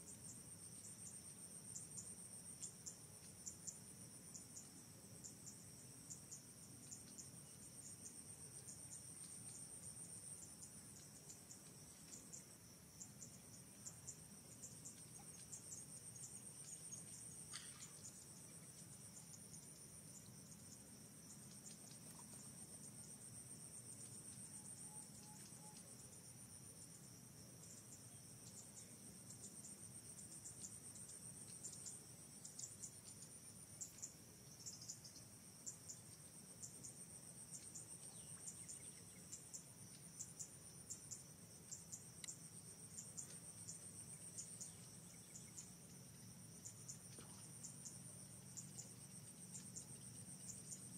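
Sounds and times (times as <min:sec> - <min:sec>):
insect chorus with ticking pulses: 0:00.0 - 0:50.9.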